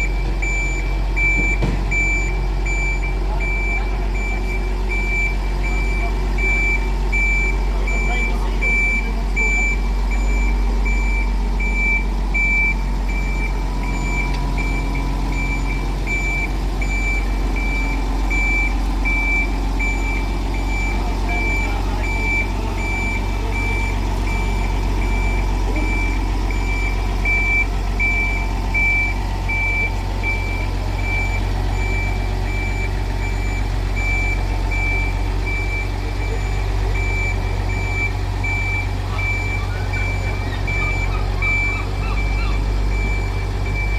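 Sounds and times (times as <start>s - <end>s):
low vehicle hum: 0.0s - 43.9s
reversing alarm beeping: 0.0s - 43.9s.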